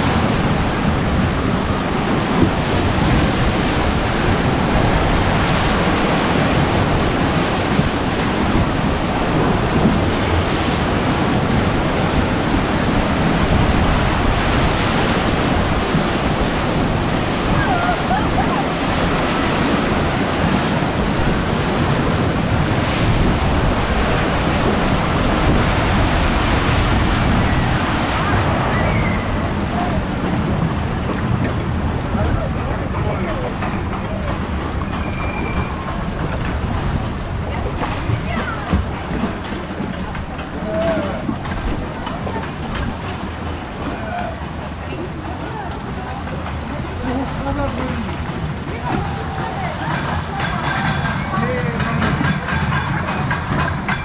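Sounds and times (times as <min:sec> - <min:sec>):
water rushing and churning: 0:00.0 - 0:54.0
wind buffeting microphone: 0:00.0 - 0:54.0.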